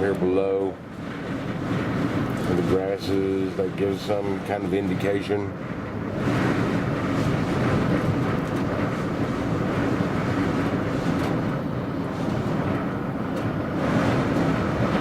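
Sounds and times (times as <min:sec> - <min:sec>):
high wind rushing and buffeting: 0:00.0 - 0:15.0.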